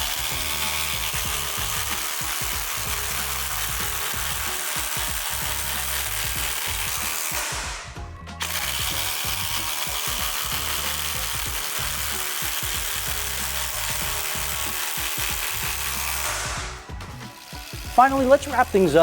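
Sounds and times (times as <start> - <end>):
impact driver driving into wood: 0.0 - 18.7
background music: 0.0 - 19.0.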